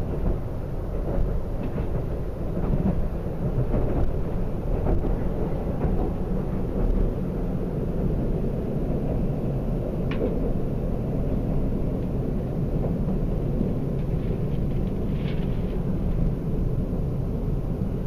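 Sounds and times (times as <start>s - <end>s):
train rumbling on tracks: 0.0s - 18.0s.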